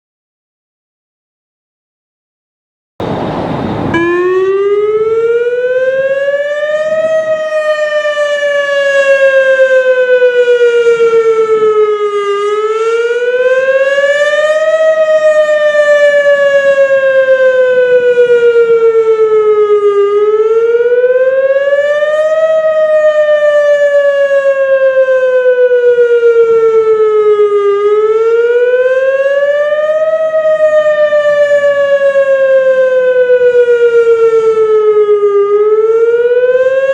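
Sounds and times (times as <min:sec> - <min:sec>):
warning siren wailing: 0:03.0 - 0:36.9.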